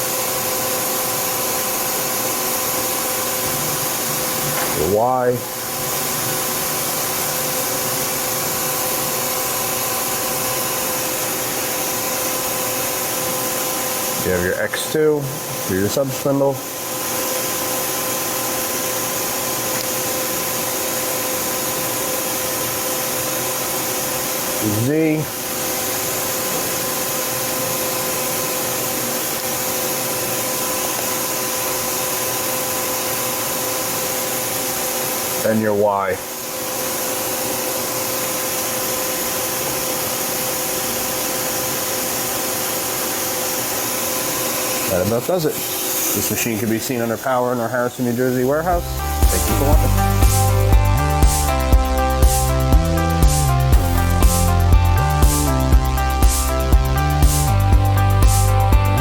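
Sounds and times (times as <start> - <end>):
lathe hissing and whining: 0.0 - 59.0.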